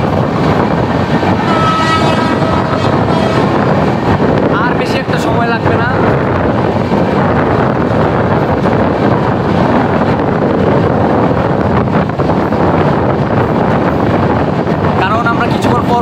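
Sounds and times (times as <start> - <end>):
train running noise: 0.0 - 16.0
wind buffeting microphone: 0.0 - 16.0.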